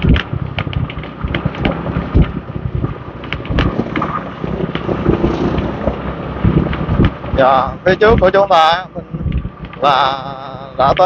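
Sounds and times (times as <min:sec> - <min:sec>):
motorbike engine running: 0:00.0 - 0:11.0
street traffic: 0:00.0 - 0:11.0
wind buffeting microphone: 0:00.0 - 0:11.0.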